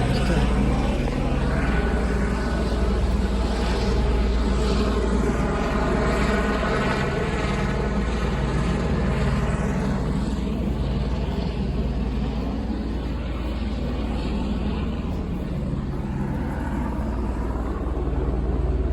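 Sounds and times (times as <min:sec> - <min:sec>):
helicopter flying overhead: 0:00.0 - 0:18.9.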